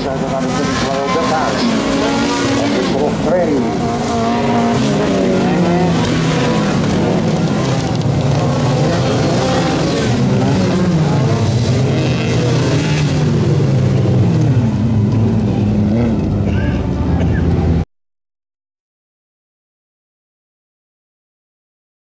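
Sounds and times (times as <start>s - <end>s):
race car engines revving: 0.0s - 17.8s.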